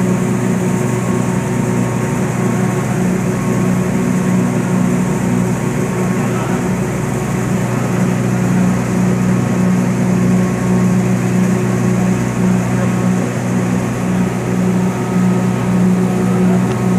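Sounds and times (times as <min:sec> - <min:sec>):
grinding machines droning: 0:00.0 - 0:16.9.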